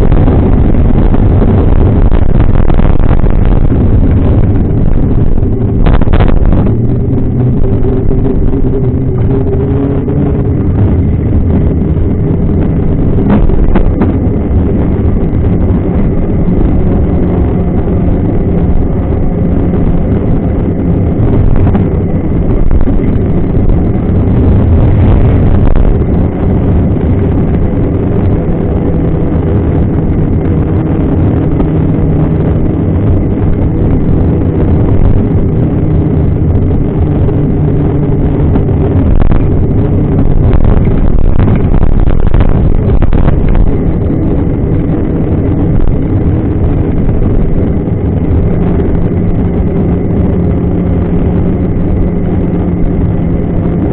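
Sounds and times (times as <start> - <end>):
bike tyre humming on asphalt: 0.0 - 53.9
wind rumble on microphone: 0.0 - 53.9.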